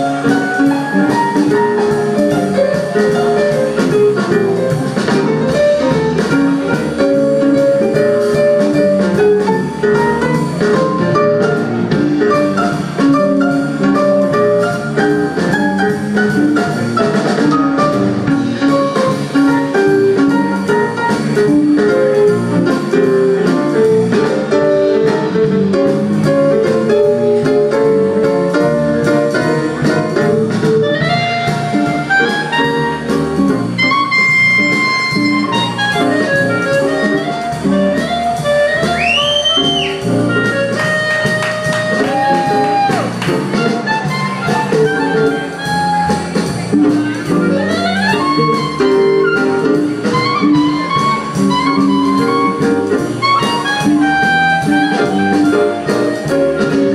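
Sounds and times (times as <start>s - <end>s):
jazz band playing: 0.0s - 56.9s.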